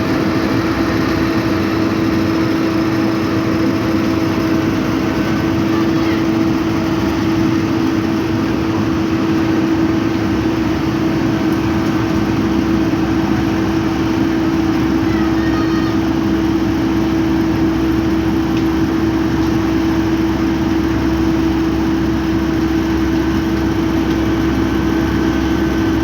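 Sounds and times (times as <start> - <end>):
paving machinery engine drone: 0.0 - 26.0.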